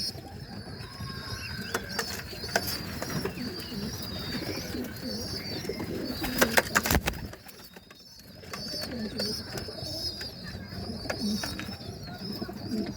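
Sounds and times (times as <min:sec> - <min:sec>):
pigeons cooing: 0:00.0 - 0:12.9
small birds chattering: 0:00.0 - 0:12.9.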